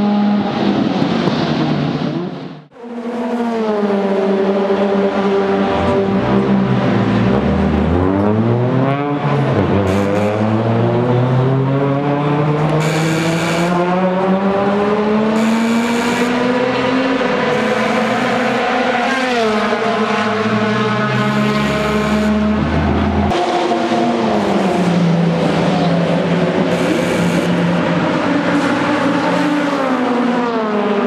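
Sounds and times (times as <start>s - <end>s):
passing race car: 0.0s - 26.8s, 27.4s - 31.0s
race car engine accelerating: 0.0s - 31.0s.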